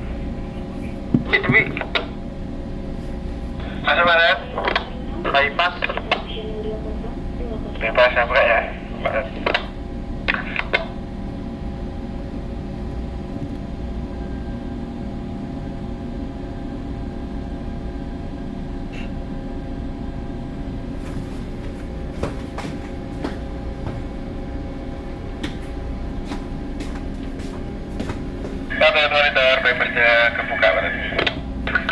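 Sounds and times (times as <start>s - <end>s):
ship engine humming: 0.0s - 31.9s.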